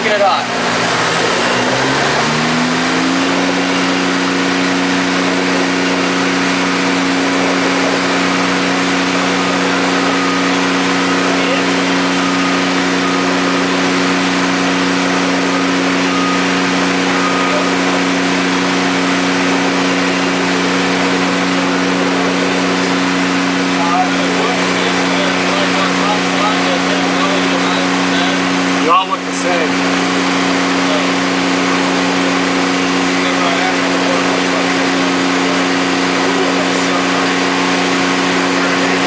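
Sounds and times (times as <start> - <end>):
generator engine running: 0.0 - 39.0.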